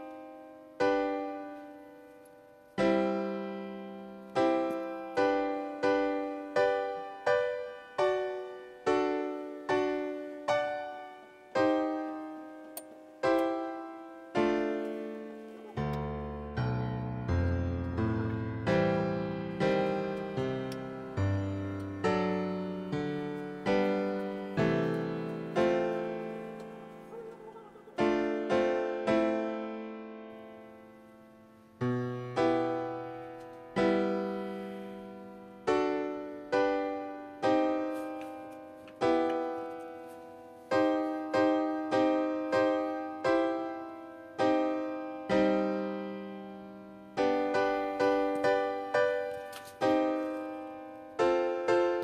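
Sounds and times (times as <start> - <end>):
slow piano chords: 0.0 - 52.0.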